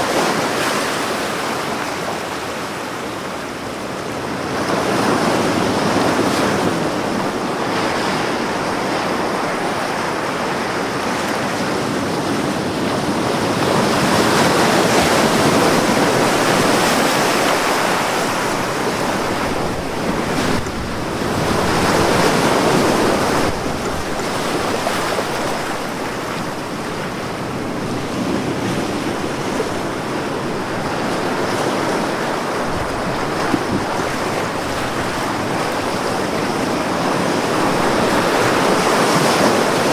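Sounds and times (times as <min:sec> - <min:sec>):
ocean waves breaking on beach: 0:00.0 - 0:39.9
wind: 0:00.0 - 0:39.9.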